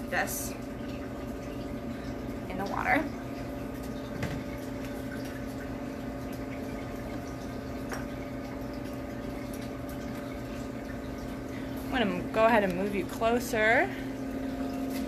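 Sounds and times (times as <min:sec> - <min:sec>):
filter hum: 0:00.0 - 0:15.0
water trickling and splashing: 0:00.0 - 0:15.0.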